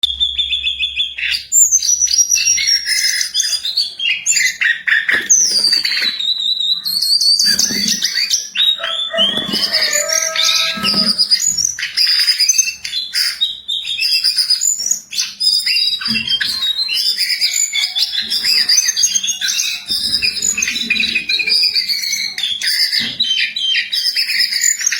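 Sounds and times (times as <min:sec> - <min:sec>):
bird singing: 0:00.0 - 0:24.9.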